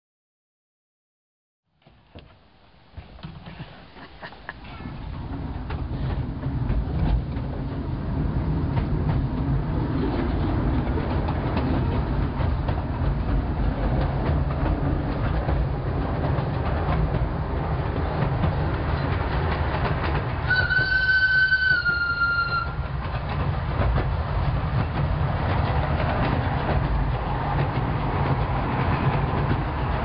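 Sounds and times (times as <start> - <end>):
train wheels clattering over rails: 1.8 - 30.0.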